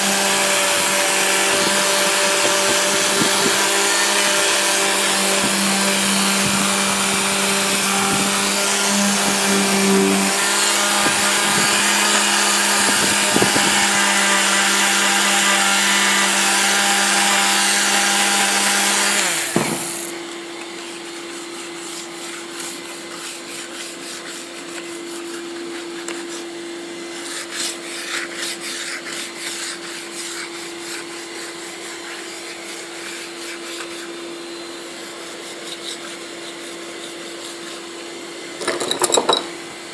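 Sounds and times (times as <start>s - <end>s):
power sander on painted wood: 0.0s - 38.6s.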